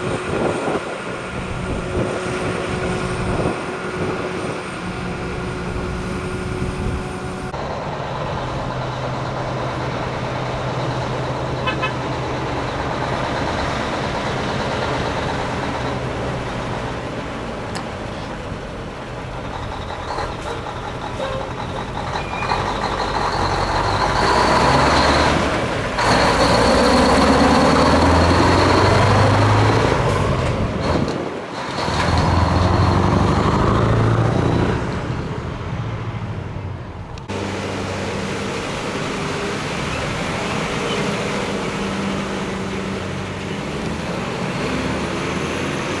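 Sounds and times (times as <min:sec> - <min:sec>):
diesel trucks driving past: 0:00.0 - 0:46.0.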